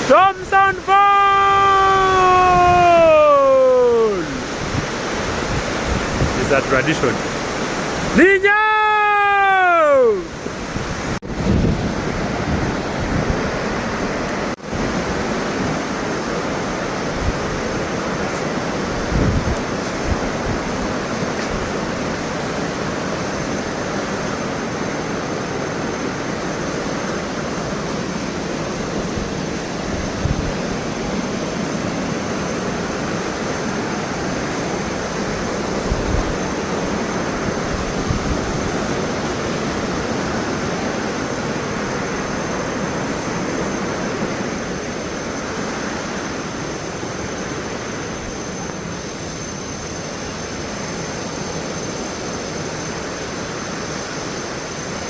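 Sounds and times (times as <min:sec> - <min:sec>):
waterfall rushing: 0:00.0 - 0:48.3.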